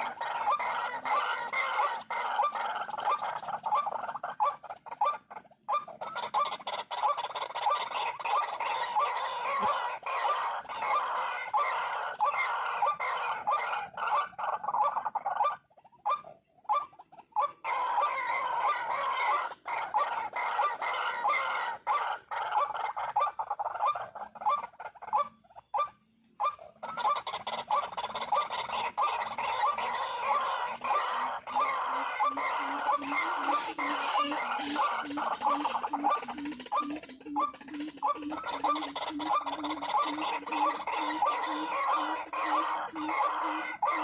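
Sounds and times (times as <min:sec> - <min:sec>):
waterhen calling harshly: 0:00.0 - 0:44.0.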